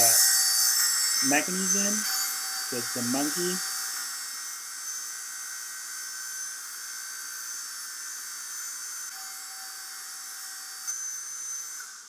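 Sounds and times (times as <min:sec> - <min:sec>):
steady hiss: 0:00.0 - 0:12.0
thin high whine: 0:00.0 - 0:12.0.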